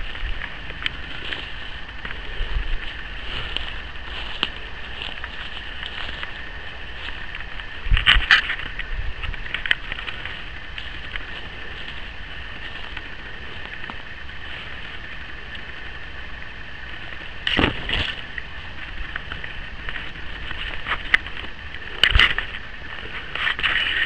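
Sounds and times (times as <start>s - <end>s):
foliage and clothing rustling: 0.0s - 24.0s
steady hiss: 0.0s - 24.0s.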